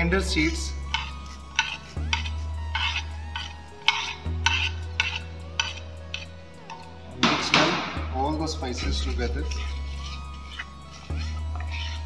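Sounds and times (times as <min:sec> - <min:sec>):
spoon scraping seeds into pan: 0:00.3 - 0:07.5, 0:08.4 - 0:12.0.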